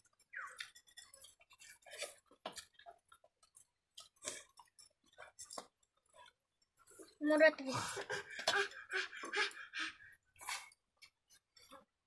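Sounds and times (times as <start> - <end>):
chewing: 0.0 - 7.2, 7.9 - 12.0.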